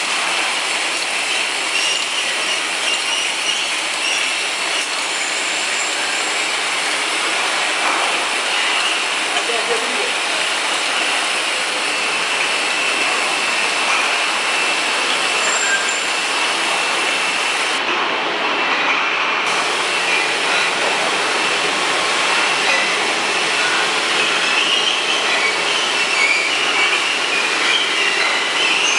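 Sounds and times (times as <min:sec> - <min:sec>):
bottling machinery noise: 0:00.0 - 0:28.9.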